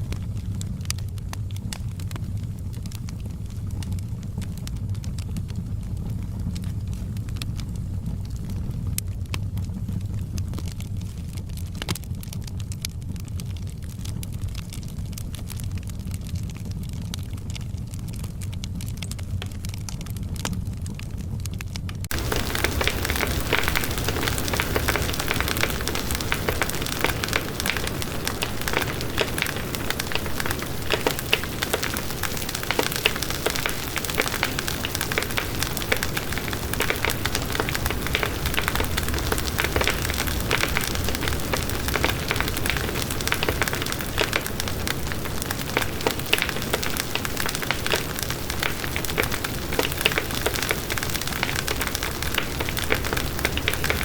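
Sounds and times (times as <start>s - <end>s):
firewood crackling in fireplace: 0.0s - 54.0s.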